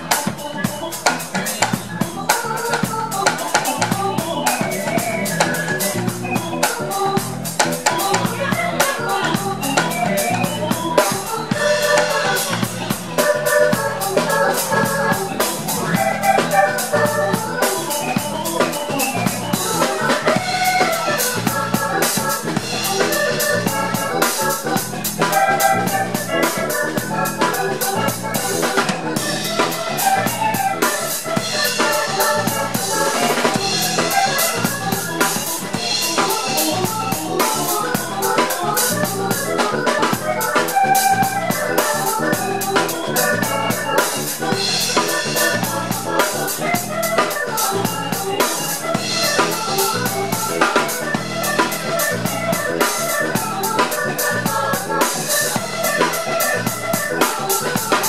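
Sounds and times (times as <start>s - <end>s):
drum kit beat: 0.0s - 58.0s
organ keyboard runs: 0.0s - 58.0s.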